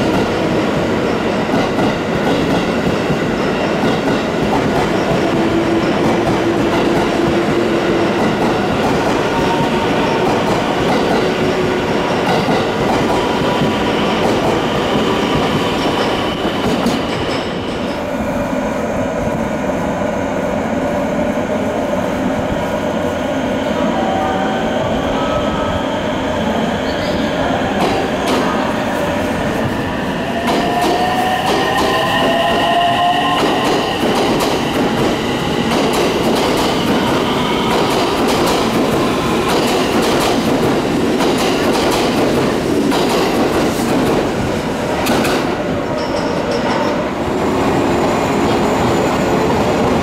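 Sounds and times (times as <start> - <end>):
train wheels rumbling and clattering: 0.0 - 19.8, 24.7 - 50.0
electric train steady tones: 0.0 - 50.0
train whine: 0.0 - 50.0.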